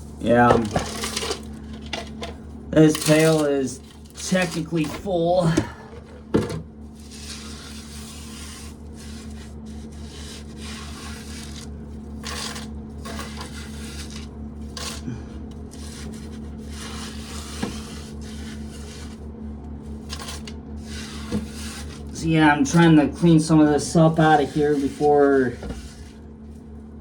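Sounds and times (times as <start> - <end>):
corn and cobs rasping: 0.0 - 26.3
corn sheller humming: 0.0 - 27.0.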